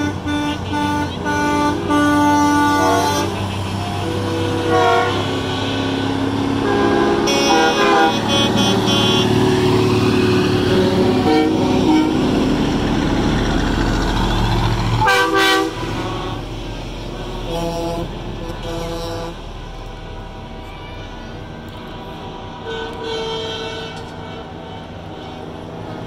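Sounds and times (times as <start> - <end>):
truck air horn blasts: 0.0 - 12.7, 15.0 - 16.4, 17.4 - 25.7
diesel truck engines: 0.0 - 26.0.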